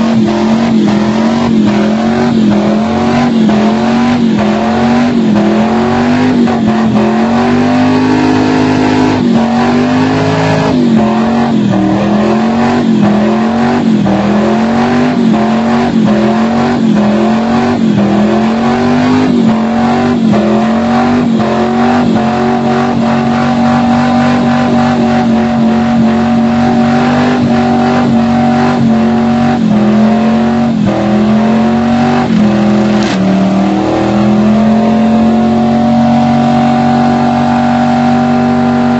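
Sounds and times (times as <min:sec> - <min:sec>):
muffled engine revving high: 0:00.0 - 0:38.9.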